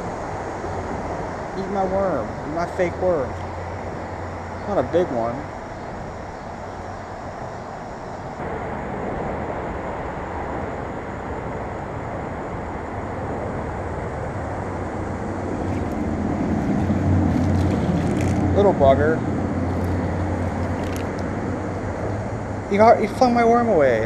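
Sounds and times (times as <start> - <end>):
low engine hum: 0.0 - 24.0
traffic rumble: 0.0 - 24.0.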